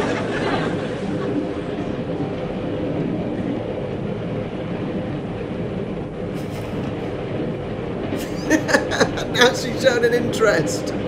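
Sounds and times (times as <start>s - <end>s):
train carriage rumbling on track: 0.0s - 11.0s.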